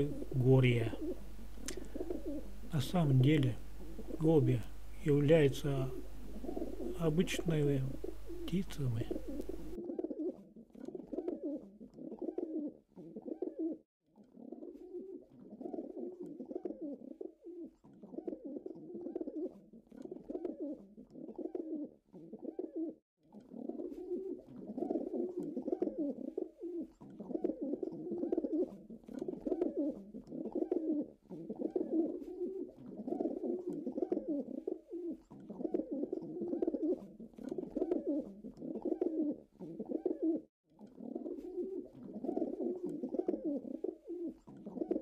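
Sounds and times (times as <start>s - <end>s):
pigeons cooing: 0.0s - 45.0s.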